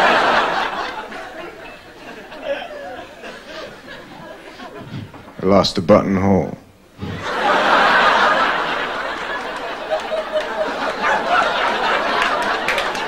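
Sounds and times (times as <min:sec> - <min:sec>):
audience laughing: 0:00.0 - 0:05.3, 0:07.0 - 0:13.0.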